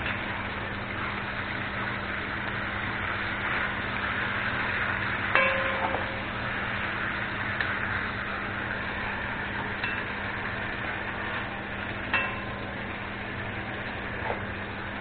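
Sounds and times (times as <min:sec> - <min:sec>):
meat sizzling in butter: 0:00.0 - 0:15.0.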